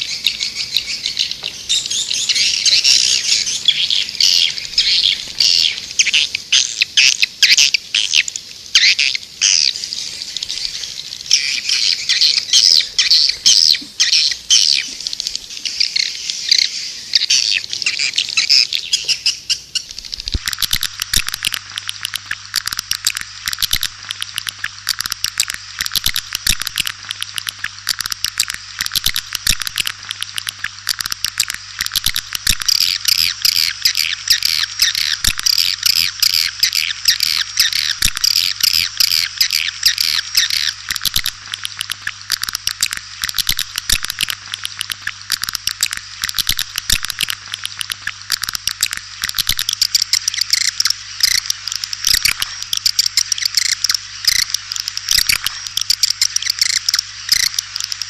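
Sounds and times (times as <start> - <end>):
swiftlets twittering: 0.0 - 58.0.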